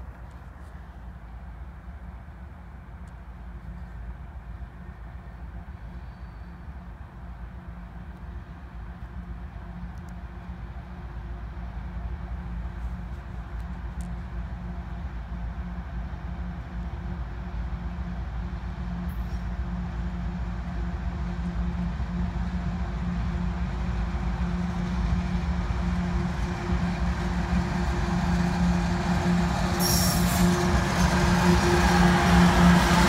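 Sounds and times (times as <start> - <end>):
diesel locomotive engine rumble: 0.0 - 33.0.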